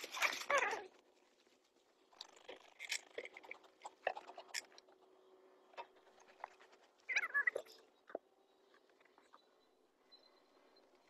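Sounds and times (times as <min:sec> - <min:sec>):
faint steady hum: 0:00.9 - 0:11.0.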